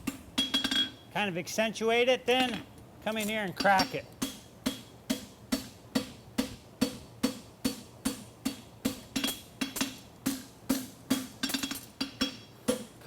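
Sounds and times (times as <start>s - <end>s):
hammer striking horseshoe on anvil: 0.0s - 1.0s, 3.2s - 13.0s.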